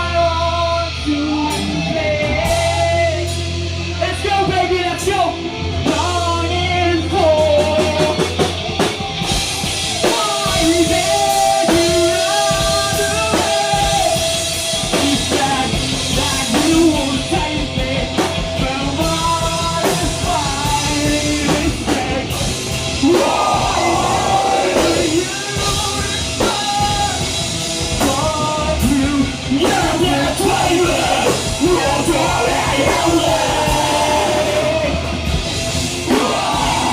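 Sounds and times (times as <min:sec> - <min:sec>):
person singing and yelling: 0:00.0 - 0:08.5, 0:09.9 - 0:27.4, 0:28.0 - 0:35.2, 0:36.0 - 0:36.9
heavy metal band playing live: 0:00.0 - 0:36.9.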